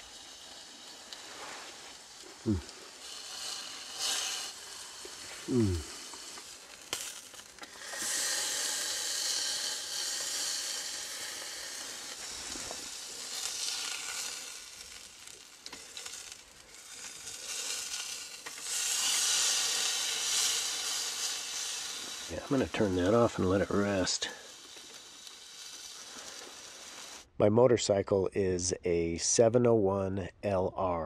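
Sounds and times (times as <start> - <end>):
steak sizzling on grill plate: 0.0 - 27.3.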